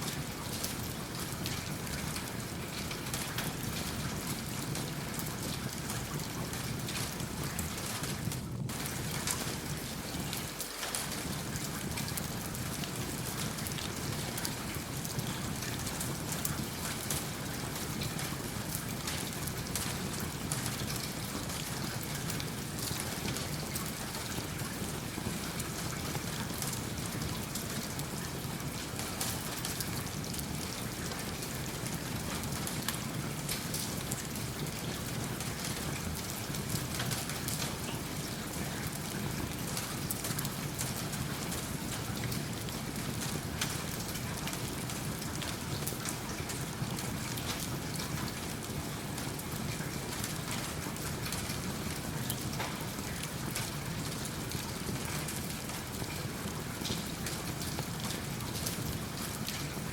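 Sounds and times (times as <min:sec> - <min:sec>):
steady rain falling: 0:00.0 - 0:59.9
wood fire crackling: 0:00.4 - 0:59.8.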